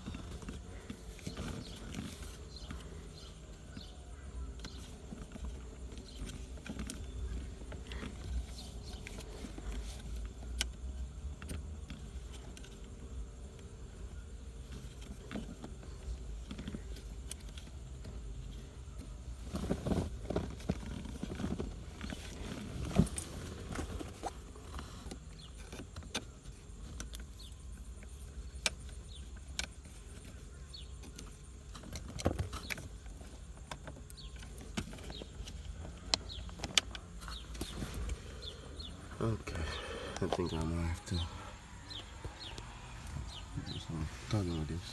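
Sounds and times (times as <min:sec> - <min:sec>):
birds chirping: 0:00.0 - 0:44.9
low steady hum: 0:00.0 - 0:44.9
rustling: 0:00.0 - 0:44.9.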